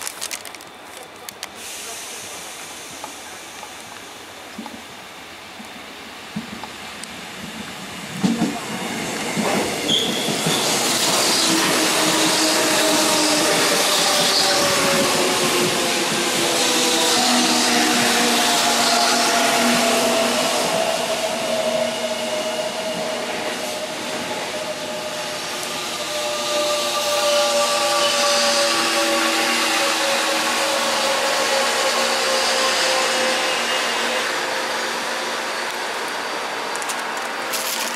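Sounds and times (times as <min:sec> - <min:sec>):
train cars hissing and rumbling: 0:00.0 - 0:37.9.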